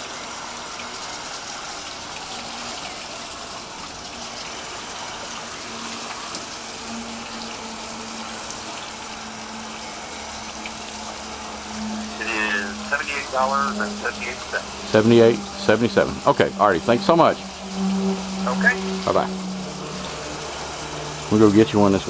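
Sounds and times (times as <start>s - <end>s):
water spray rinsing coil: 0.0s - 22.0s.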